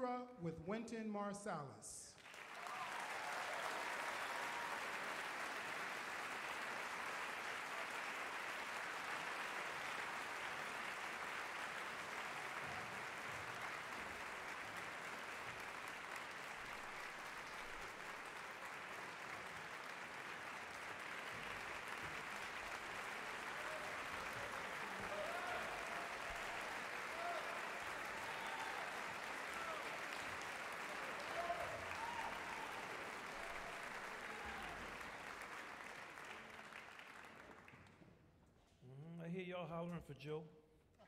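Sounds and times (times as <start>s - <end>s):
audience applauding: 2.2s - 38.0s.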